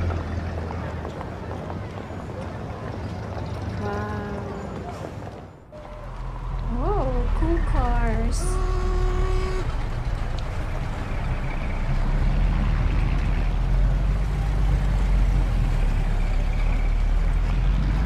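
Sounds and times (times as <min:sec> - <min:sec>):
old vehicle engines rumbling: 0:00.0 - 0:18.0.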